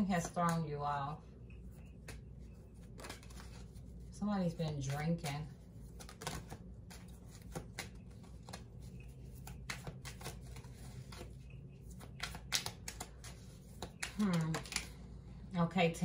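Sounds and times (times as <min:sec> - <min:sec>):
cards being shuffled: 0:01.6 - 0:15.0.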